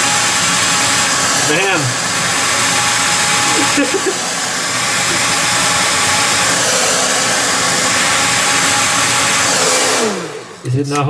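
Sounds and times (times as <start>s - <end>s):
heat gun blowing air: 0.0s - 10.8s
motor whine: 0.0s - 11.0s.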